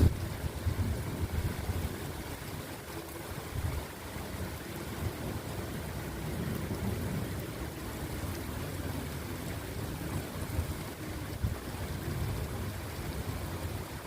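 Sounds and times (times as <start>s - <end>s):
low rumble of thunder: 0.0s - 2.4s, 4.8s - 14.0s
steady rain: 0.0s - 14.0s.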